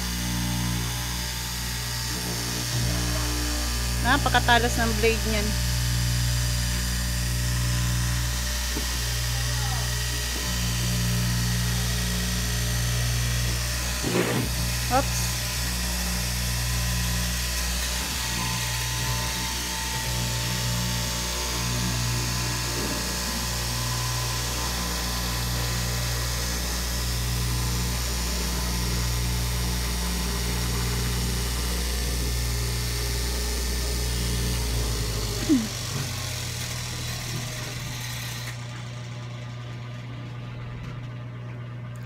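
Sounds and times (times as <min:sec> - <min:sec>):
cloth cutting machine motor hum: 0:00.0 - 0:42.0.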